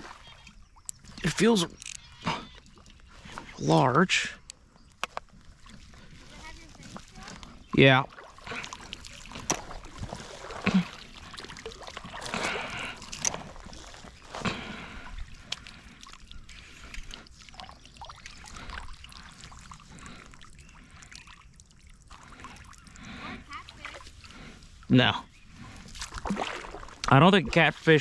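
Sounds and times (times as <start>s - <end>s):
water trickling and splashing: 0.0s - 28.0s.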